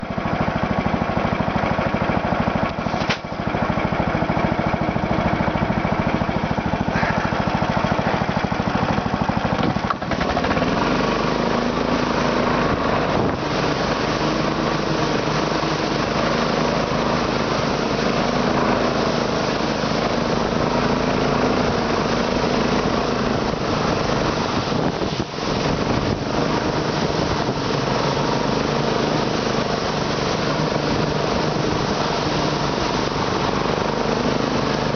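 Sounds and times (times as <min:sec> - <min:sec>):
combustion engine running: 0:00.0 - 0:34.9.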